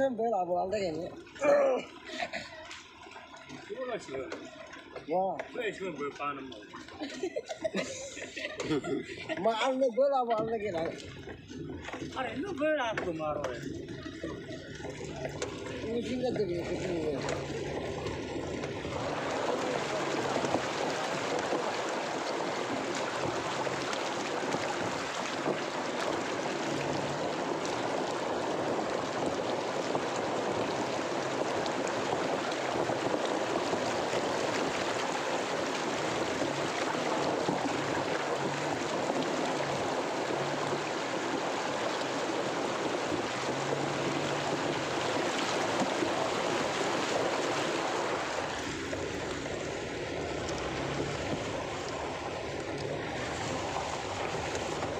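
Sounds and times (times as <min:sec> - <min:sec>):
water splashing around tyres: 0:00.0 - 0:54.9
vehicle engine running low: 0:10.8 - 0:54.9.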